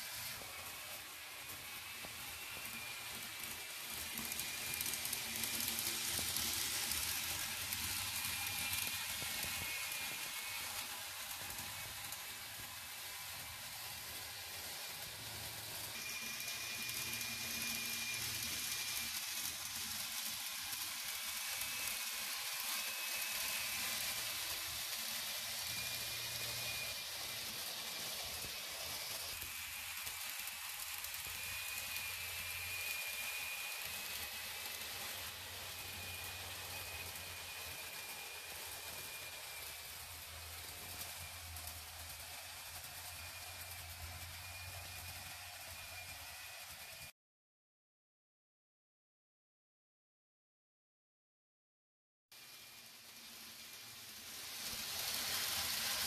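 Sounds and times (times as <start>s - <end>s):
faint high whine: 0.0s - 47.1s
model train wheels rolling: 0.0s - 47.1s, 52.4s - 56.0s.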